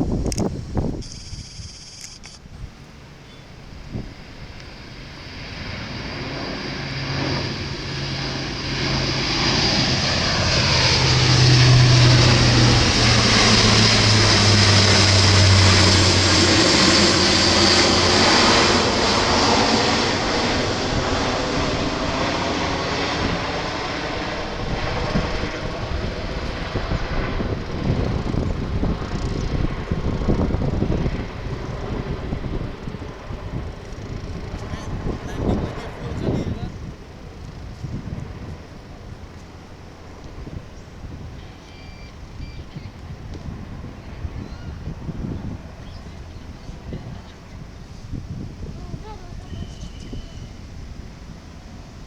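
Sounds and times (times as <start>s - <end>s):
propeller aircraft passing low: 0.0s - 52.0s.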